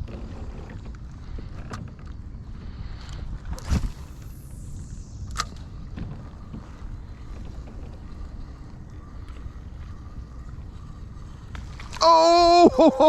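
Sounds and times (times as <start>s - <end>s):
faint thin whine: 0.0s - 12.0s
low rumble of wind and water: 0.0s - 13.0s.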